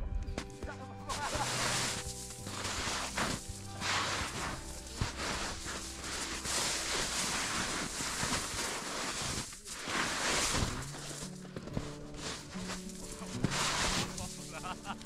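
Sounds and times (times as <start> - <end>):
footsteps crunching in snow: 0.2 - 15.0.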